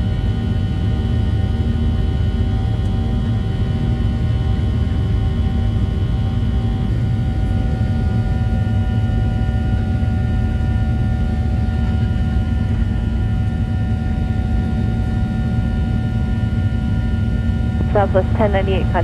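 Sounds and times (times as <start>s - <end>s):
jet engines low rumble: 0.0s - 19.0s.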